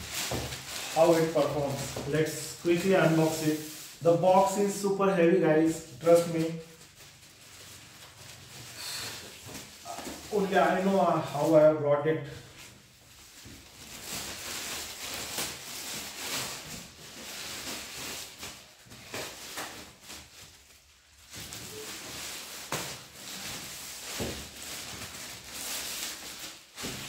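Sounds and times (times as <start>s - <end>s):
plastic wrapping crinkling: 0.0s - 11.6s, 12.4s - 27.0s.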